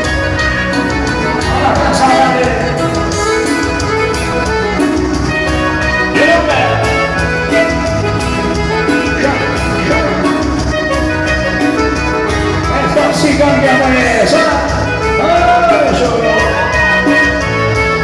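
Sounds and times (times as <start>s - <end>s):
latin dance music with singing: 0.0s - 18.0s.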